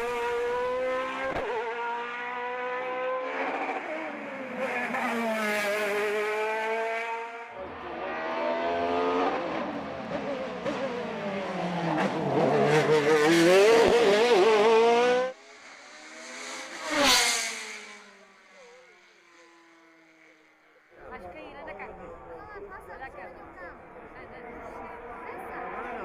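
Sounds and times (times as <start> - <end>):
racing car engine at high revs: 0.0 - 20.6, 23.4 - 26.0.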